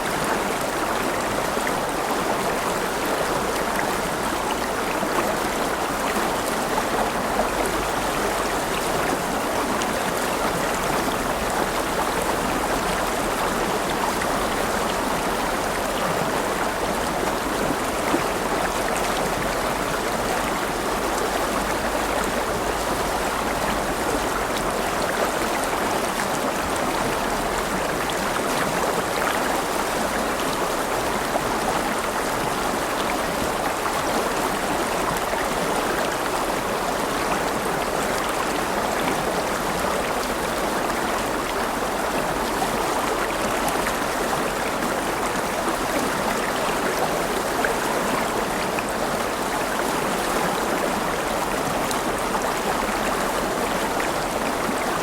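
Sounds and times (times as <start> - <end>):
river water burbling over stones: 0.0 - 55.0.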